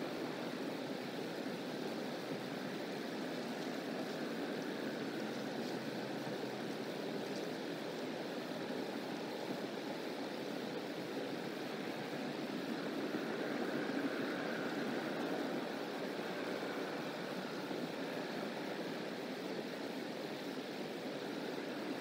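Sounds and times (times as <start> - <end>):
rushing outdoor background noise: 0.0 - 22.0.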